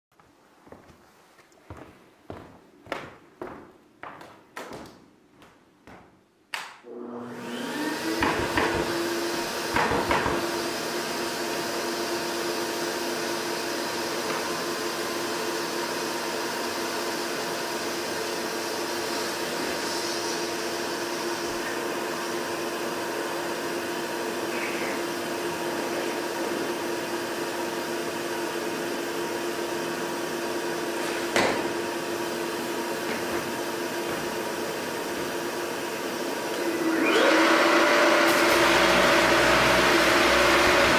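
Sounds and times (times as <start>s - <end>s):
dust extractor motor running: 6.9s - 40.9s.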